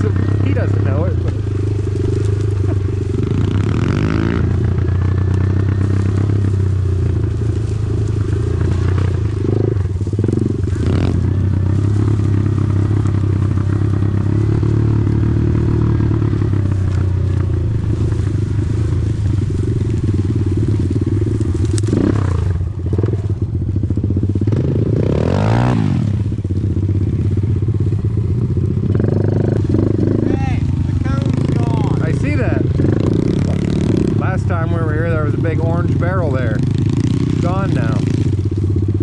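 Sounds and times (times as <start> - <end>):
small engine running and revving: 0.0 - 39.0.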